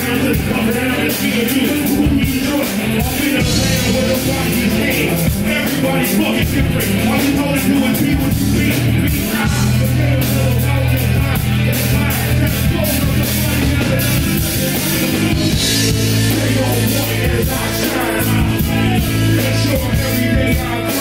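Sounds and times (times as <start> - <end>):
bass notes: 0.0 - 21.0
drum kit with cymbals: 0.0 - 21.0
electric guitar: 0.0 - 21.0.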